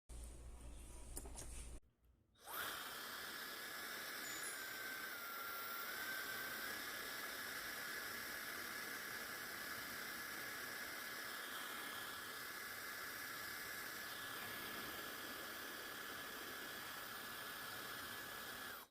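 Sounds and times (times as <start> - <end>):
hair dryer running: 2.4 - 18.9.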